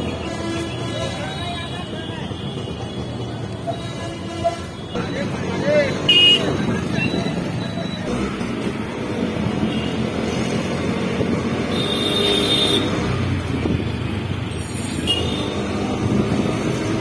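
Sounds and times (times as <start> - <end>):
engine and tyre rumble: 0.0 - 17.0.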